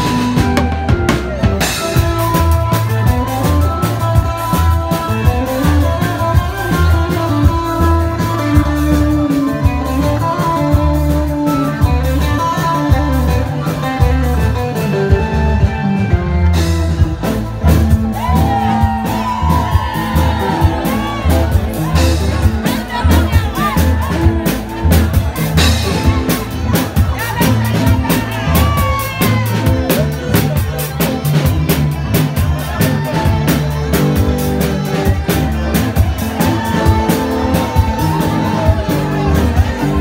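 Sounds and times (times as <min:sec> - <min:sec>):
drum kit beat: 0:00.0 - 0:40.0
electric bass: 0:00.0 - 0:40.0
guitar or keyboard melody: 0:00.0 - 0:40.0.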